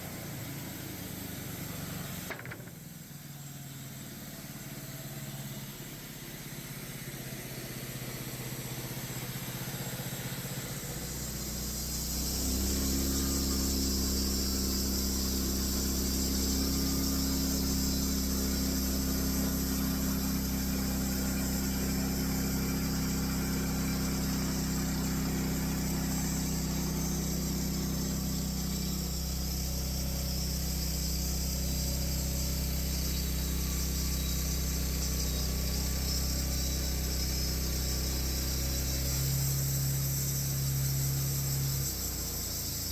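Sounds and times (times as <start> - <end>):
sawmill engine running: 0.0 - 42.9.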